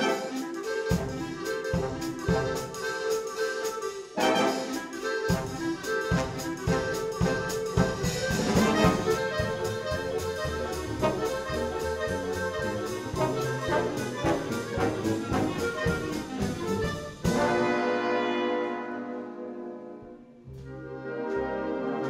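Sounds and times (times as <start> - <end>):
wind band playing: 0.0 - 22.0.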